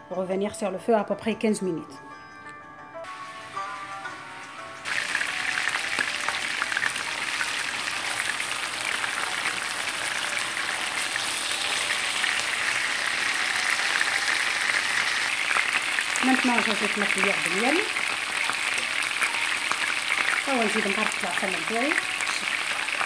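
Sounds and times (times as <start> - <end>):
chicken sizzling in hot oil: 3.1 - 23.0.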